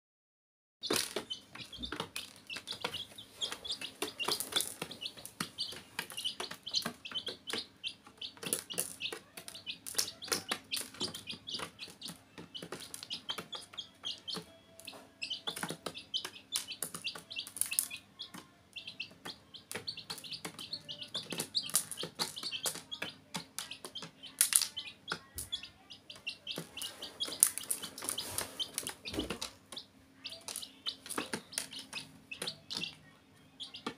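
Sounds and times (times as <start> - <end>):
baby chicks peeping: 0.8 - 33.9.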